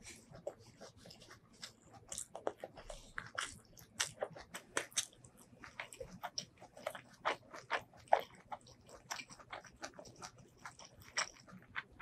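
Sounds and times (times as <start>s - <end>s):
chewing and biting food: 0.0s - 12.0s.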